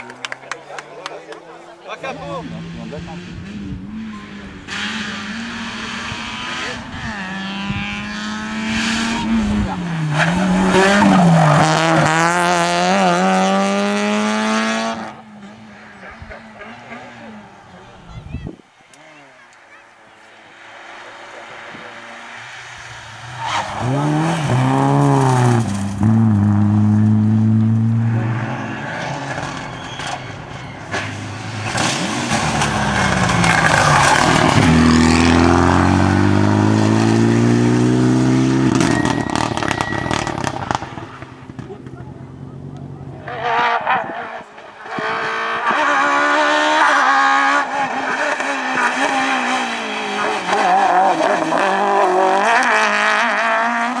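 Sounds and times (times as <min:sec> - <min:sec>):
rally car engine under hard throttle: 0:01.6 - 0:19.3, 0:20.4 - 0:54.0.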